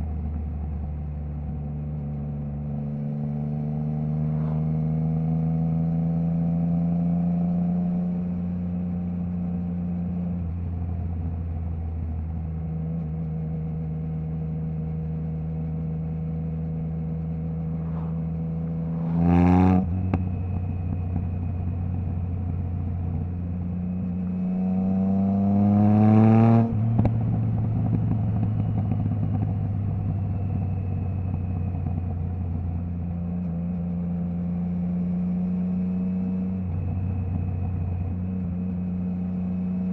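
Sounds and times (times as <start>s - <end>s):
motorcycle engine cruising and revving: 0.0s - 39.9s.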